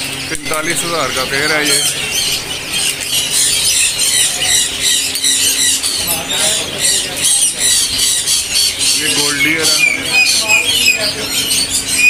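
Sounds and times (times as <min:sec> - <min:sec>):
caged birds chirping and squawking: 0:00.0 - 0:12.0.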